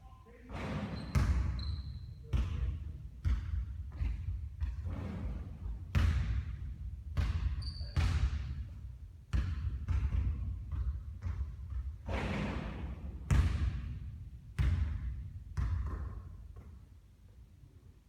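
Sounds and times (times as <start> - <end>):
basketball bouncing on court: 0.5 - 16.9.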